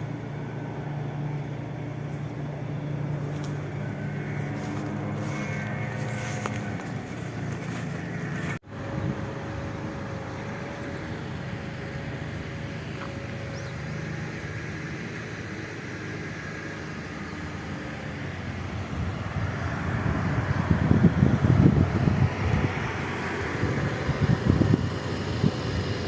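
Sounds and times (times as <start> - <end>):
moving vehicle running noise: 0.0 - 26.0.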